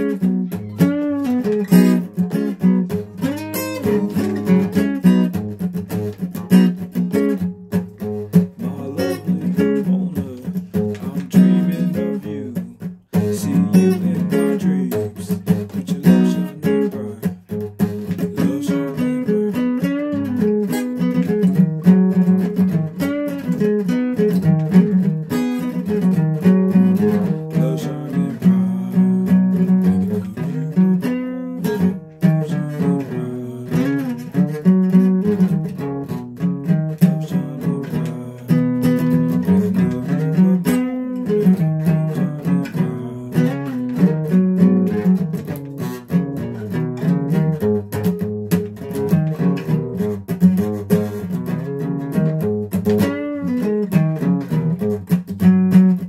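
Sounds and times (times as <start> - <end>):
guitar playing: 0.0 - 56.0.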